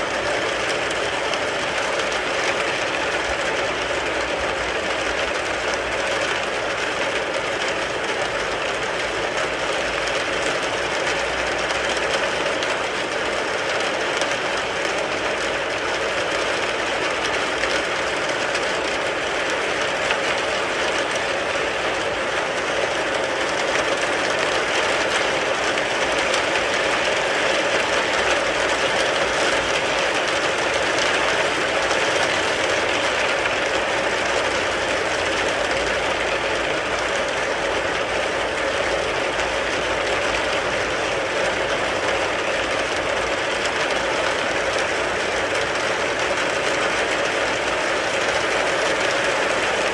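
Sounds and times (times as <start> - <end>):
rain falling on a car: 0.0 - 49.9.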